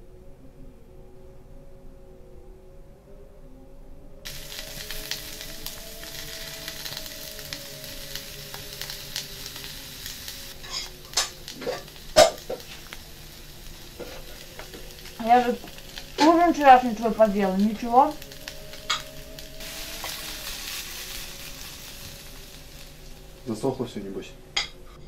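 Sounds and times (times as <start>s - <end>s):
food sizzling in frying pan: 4.2s - 24.7s.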